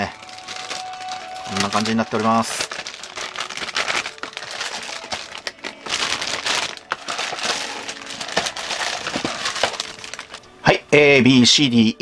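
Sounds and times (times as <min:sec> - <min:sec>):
plastic bags crinkling: 0:00.0 - 0:10.5.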